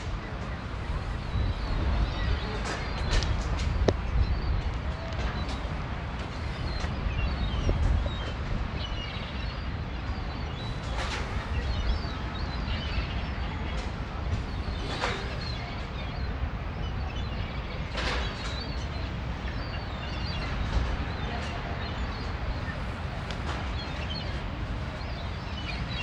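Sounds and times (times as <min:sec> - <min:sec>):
small birds chirping: 0:00.0 - 0:26.0
wind buffeting microphone: 0:00.0 - 0:26.0.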